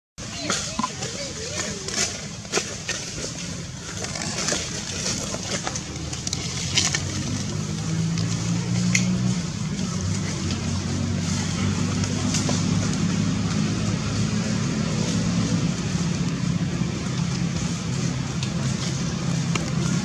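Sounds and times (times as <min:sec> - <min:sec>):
motor engine humming: 0:00.2 - 0:20.0.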